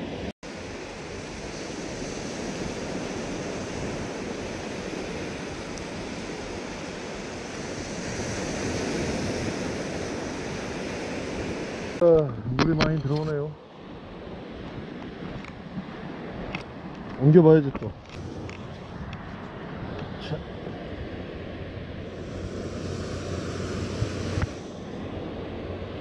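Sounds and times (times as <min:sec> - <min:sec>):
small waves washing up beach: 0:00.0 - 0:12.0, 0:13.6 - 0:17.3, 0:18.0 - 0:26.0.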